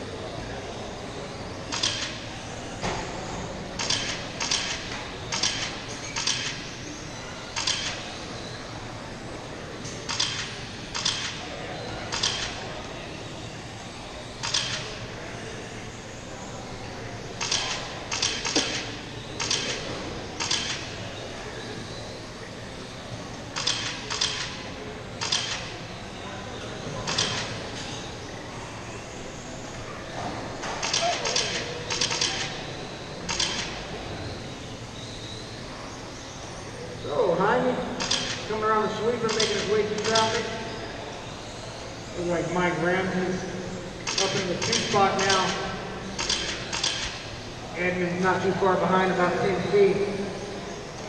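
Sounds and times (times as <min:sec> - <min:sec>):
low background hum: 0:00.0 - 0:51.0.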